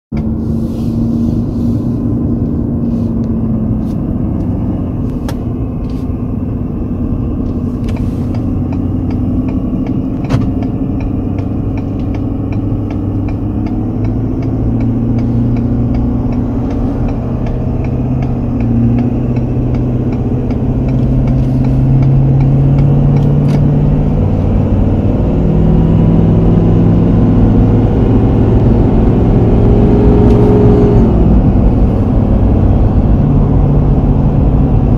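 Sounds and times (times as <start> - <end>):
vehicle engine and road drone: 0.1 - 34.9.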